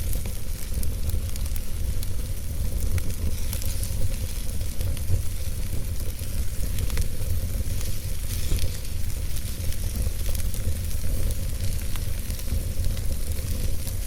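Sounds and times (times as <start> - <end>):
log fire crackling and popping: 0.0 - 14.0
low rumble of fire: 0.0 - 14.0.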